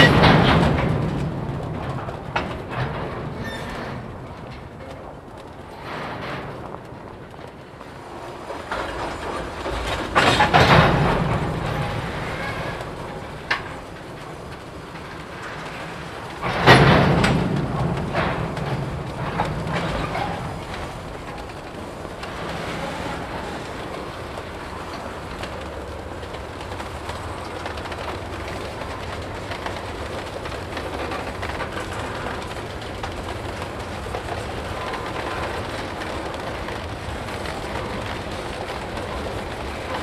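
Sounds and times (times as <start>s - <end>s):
freight cars rumbling on rails: 0.0s - 40.0s.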